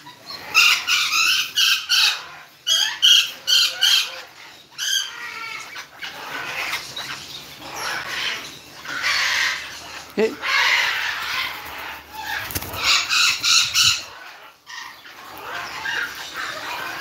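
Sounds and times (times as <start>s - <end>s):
parrots squawking: 0.0s - 17.0s.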